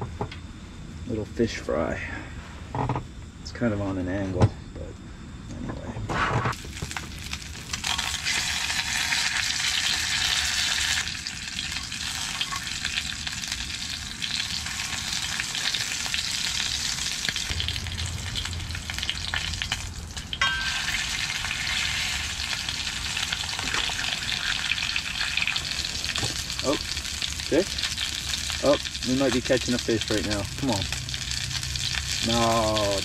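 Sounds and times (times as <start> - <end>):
fish frying in butter: 6.5 - 33.0.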